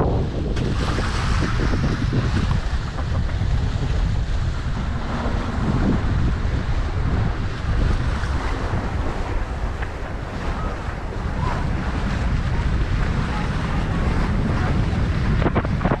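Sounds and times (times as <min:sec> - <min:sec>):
sea water rushing along hull: 0:00.0 - 0:16.0
wind buffeting microphone: 0:00.0 - 0:16.0.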